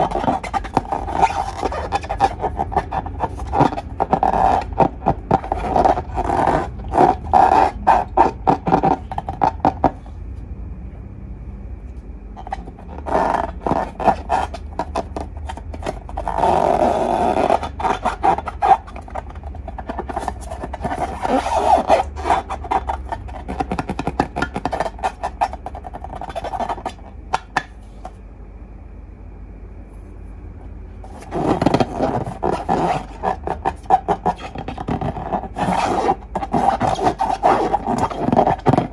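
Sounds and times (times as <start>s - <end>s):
slime squelching: 0.0s - 10.1s, 12.4s - 28.2s, 31.0s - 38.9s.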